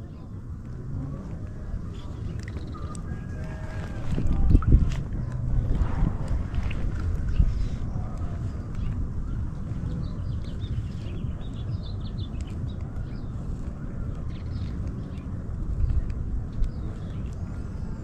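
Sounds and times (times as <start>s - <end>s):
birds chirping: 0.0s - 18.0s
wind rumble on microphone: 0.0s - 18.0s.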